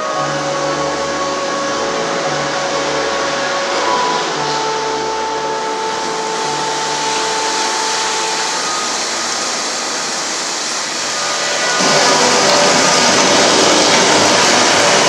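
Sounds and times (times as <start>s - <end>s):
faint high held tone: 0.0s - 15.0s
steady rushing noise: 0.0s - 15.0s.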